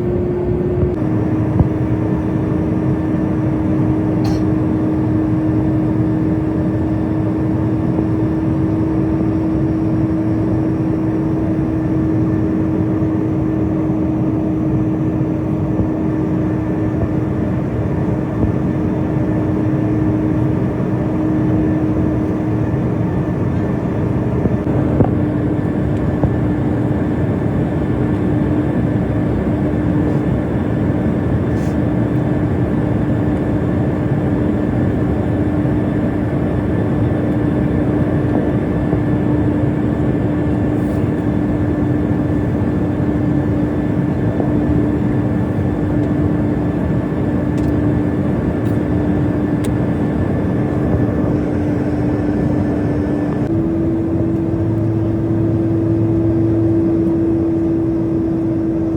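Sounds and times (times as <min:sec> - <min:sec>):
airliner cabin engine drone: 0:00.0 - 0:58.9.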